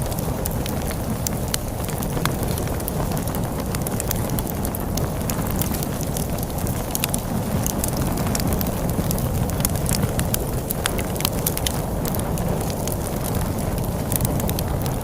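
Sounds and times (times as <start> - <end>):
log fire crackling and popping: 0.0 - 15.0
storm wind rumbling: 0.0 - 15.0.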